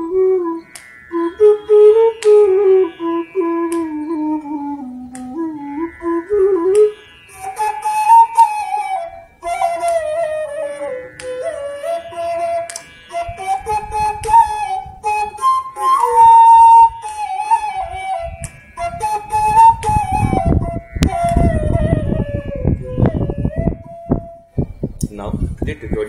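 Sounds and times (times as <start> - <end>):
bamboo flute melody: 0.0 - 25.0.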